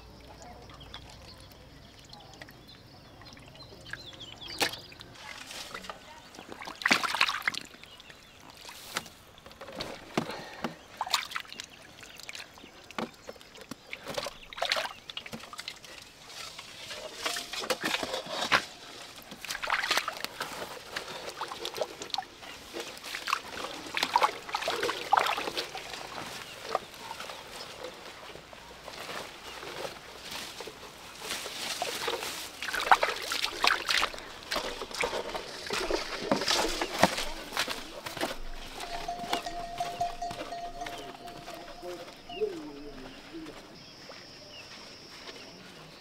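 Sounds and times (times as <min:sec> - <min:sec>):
splashing in muddy water: 0:00.0 - 0:28.0, 0:29.2 - 0:43.0.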